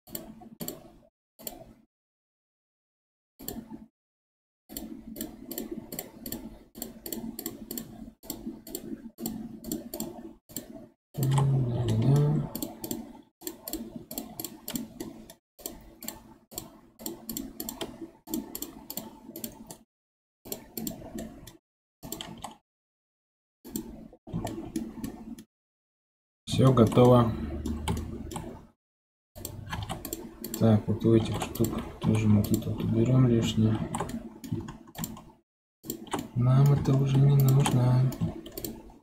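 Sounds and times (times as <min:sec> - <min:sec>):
keyboard and mouse clicking: 0:00.1 - 0:01.8, 0:03.4 - 0:03.8, 0:04.7 - 0:19.8, 0:20.5 - 0:22.6, 0:23.7 - 0:25.5, 0:26.6 - 0:28.7, 0:29.4 - 0:39.0.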